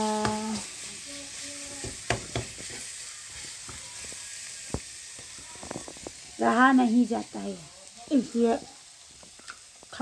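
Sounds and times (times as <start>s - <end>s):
paste frying in oil: 0.0s - 10.0s.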